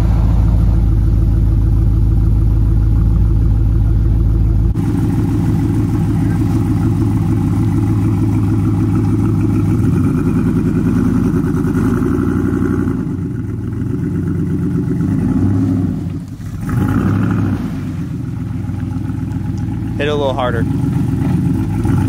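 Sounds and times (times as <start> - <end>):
truck engine running under load: 0.0 - 22.0.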